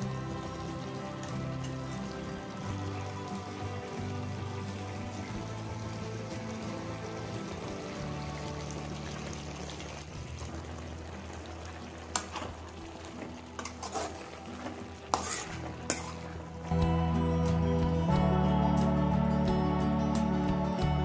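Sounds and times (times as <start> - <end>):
frying sizzle: 0.0 - 18.3
soft instrumental music: 0.0 - 21.0.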